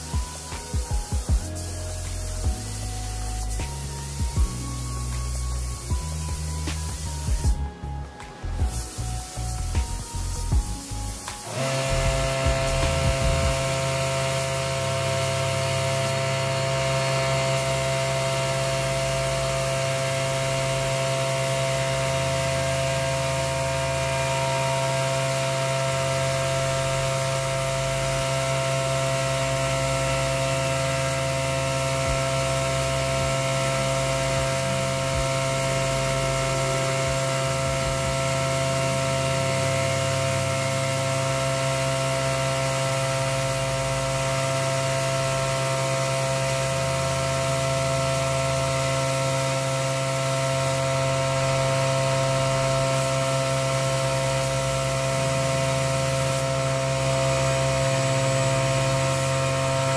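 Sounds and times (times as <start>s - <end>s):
air compressor humming: 0.0s - 59.9s
spray gun hissing: 0.0s - 59.9s.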